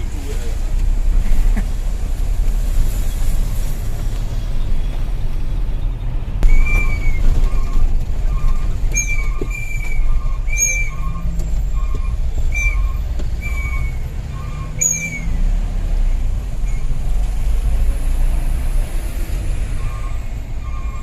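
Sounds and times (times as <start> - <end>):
truck engine droning: 0.0 - 21.0.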